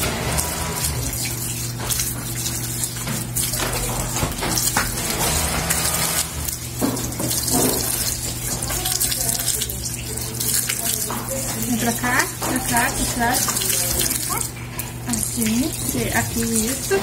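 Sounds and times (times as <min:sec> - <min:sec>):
tap water running into sink: 0:00.0 - 0:17.0
water splashing over hair: 0:00.0 - 0:17.0.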